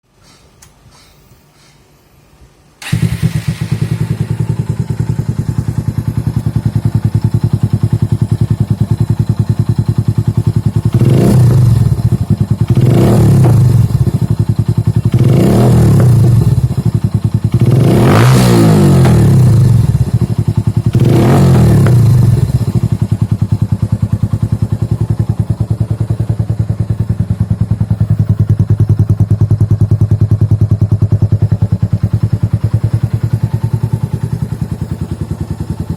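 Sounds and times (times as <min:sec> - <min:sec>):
motorcycle engine idling and revving: 0:02.8 - 0:35.9.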